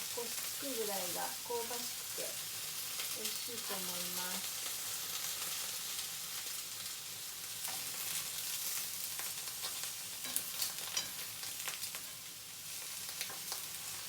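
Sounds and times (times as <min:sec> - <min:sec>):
eggplant sizzling in oil: 0:00.0 - 0:14.0.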